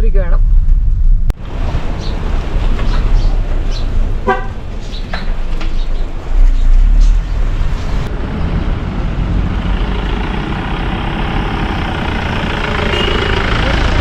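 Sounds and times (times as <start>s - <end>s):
low buffeting: 0.0s - 14.0s
vehicle engine and road rumble: 0.0s - 14.0s.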